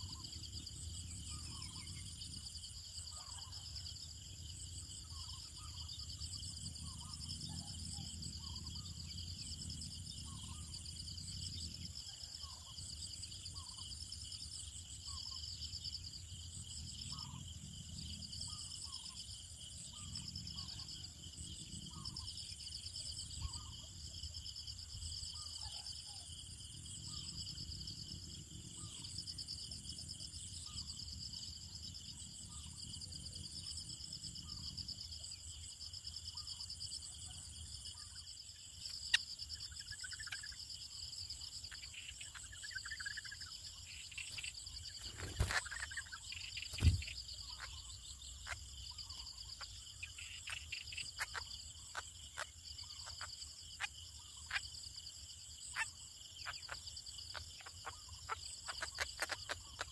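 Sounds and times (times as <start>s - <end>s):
insects trilling: 0.0s - 59.9s.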